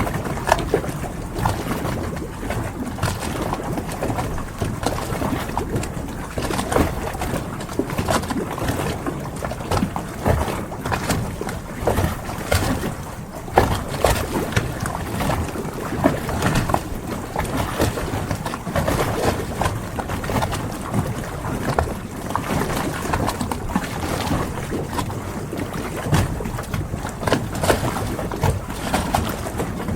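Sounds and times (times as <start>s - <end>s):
small knocks and splashes: 0.0s - 29.9s
water lapping around boats: 0.0s - 29.9s.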